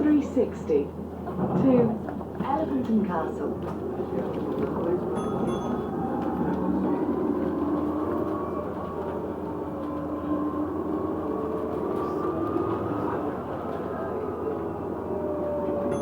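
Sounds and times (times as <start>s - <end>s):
bus running and road noise: 0.0s - 16.0s.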